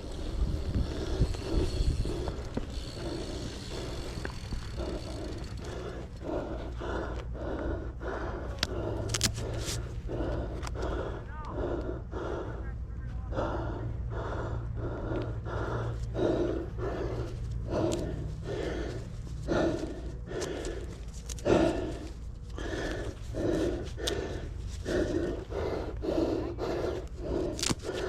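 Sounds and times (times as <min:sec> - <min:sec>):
person panting hard: 0:00.0 - 0:28.0.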